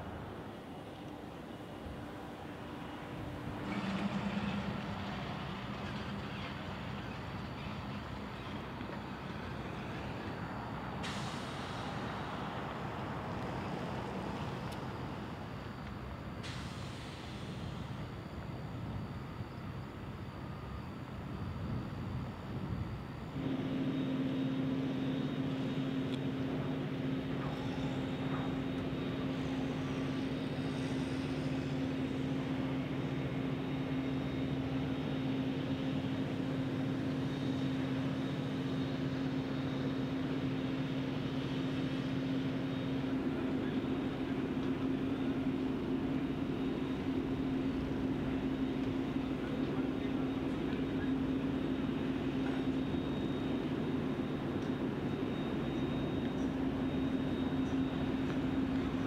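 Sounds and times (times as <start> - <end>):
machinery humming: 0.0 - 59.0.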